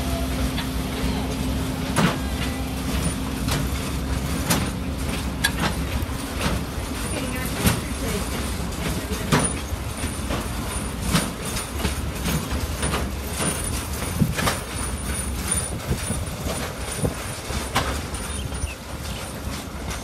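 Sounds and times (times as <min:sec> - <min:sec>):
train low rumble: 0:00.0 - 0:20.0
train wheels clicking on rails: 0:00.0 - 0:20.0.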